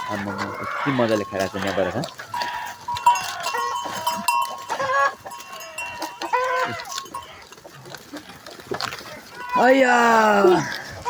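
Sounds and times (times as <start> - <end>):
goats bleating: 0.0 - 7.4, 8.9 - 11.0
chickens clucking: 0.0 - 9.9.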